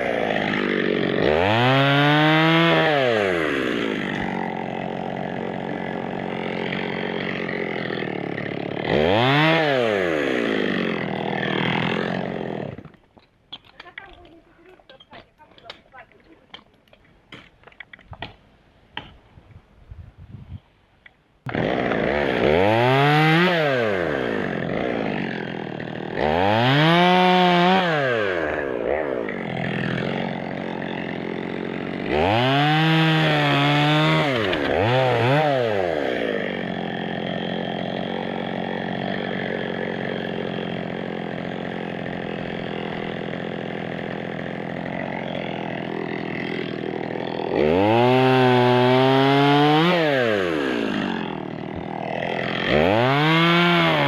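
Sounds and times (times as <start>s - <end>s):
chainsaw revving and idling: 0.0s - 13.0s, 21.5s - 54.0s.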